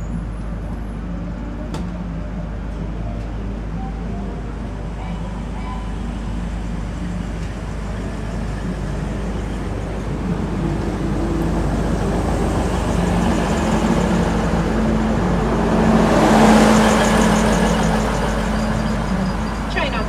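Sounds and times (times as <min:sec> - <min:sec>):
diesel railcar passing: 0:00.0 - 0:20.0.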